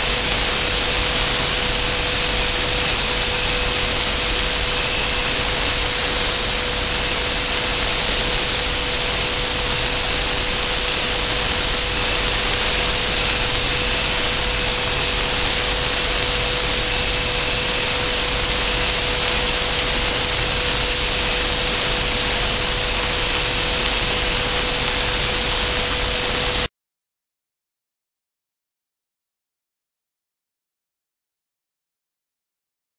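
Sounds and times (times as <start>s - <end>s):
hiss: 0.0s - 26.7s
machinery high-pitched whine: 0.0s - 26.7s
machinery low hum: 0.0s - 26.7s.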